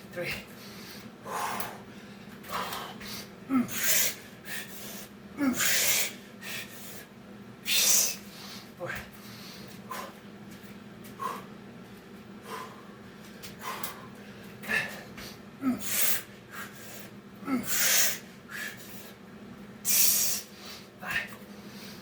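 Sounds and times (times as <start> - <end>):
man breathing hard: 0.2 - 10.3, 11.1 - 11.6, 12.4 - 19.2, 19.9 - 22.0.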